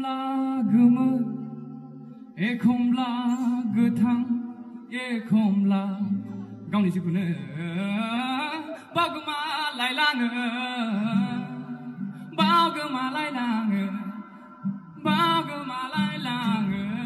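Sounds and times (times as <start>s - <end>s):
acoustic guitar: 0.0s - 17.0s
man singing into a microphone: 0.0s - 17.0s.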